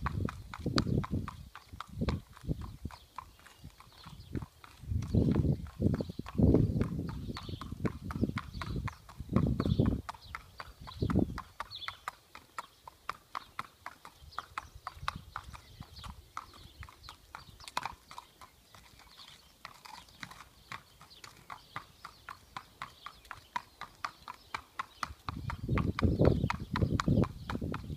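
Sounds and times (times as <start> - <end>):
horse hooves clip-clopping: 0.0 - 27.9.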